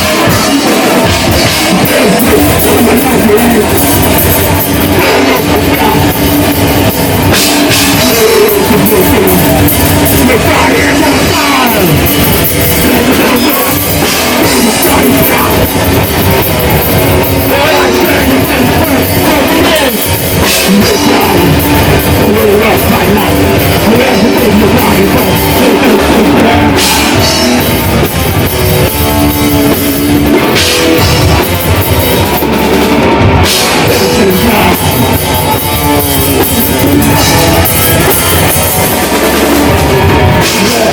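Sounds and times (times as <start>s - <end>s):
distorted guitars: 0.0s - 40.9s
drum kit: 0.0s - 40.9s.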